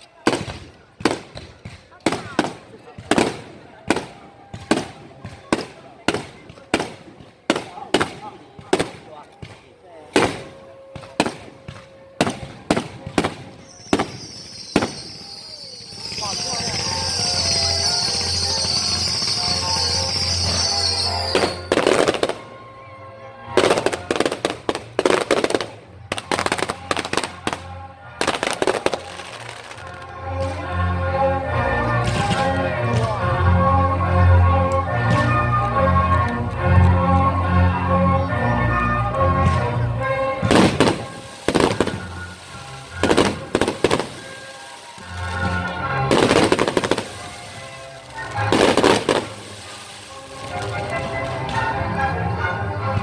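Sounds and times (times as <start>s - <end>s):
fireworks crackling: 0.0s - 53.0s
music: 0.0s - 53.0s.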